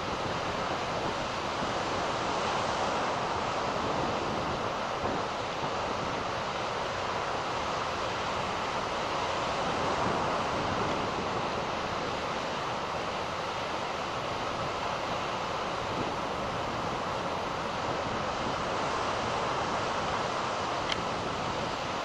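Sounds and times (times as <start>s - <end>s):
ocean surf breaking: 0.0s - 22.0s
wind: 0.0s - 22.0s.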